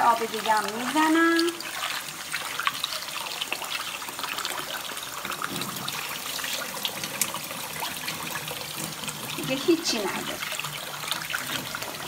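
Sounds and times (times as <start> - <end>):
water pouring into steel sink: 0.0 - 12.0.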